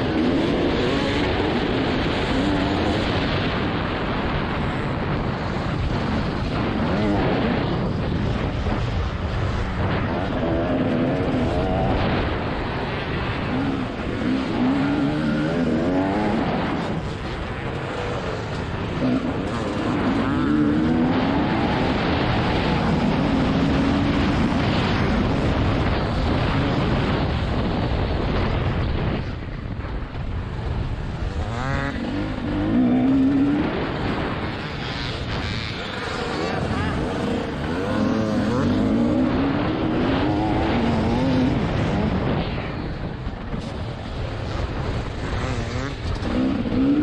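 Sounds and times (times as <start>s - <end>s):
steady rush of noise: 0.0s - 47.0s
two-stroke motorcycle engine revving: 0.0s - 47.0s.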